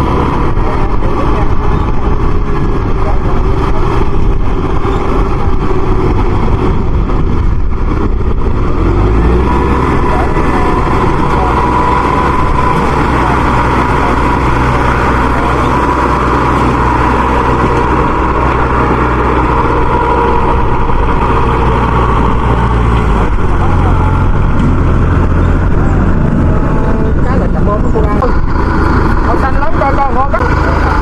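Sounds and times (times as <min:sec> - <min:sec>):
diesel engine running hard: 0:00.0 - 0:31.0
steady whine: 0:00.0 - 0:31.0.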